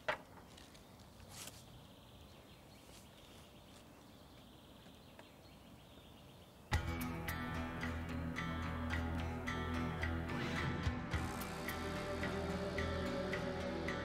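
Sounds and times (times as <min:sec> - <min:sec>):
faint outdoor background noise: 0:00.0 - 0:14.0.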